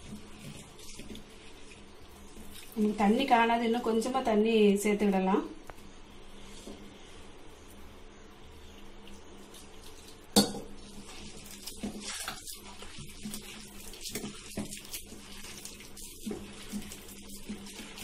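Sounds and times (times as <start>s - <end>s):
hand mixing wet batter: 0.0s - 18.0s.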